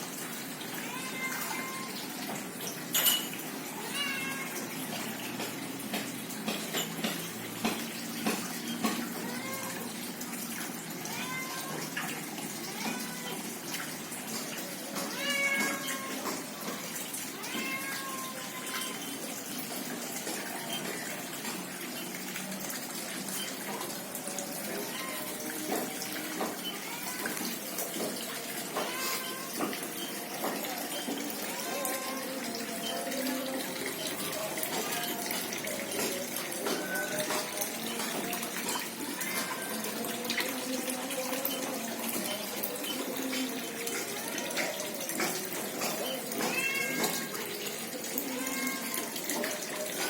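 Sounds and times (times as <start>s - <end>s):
pond water trickling: 0.0s - 50.0s.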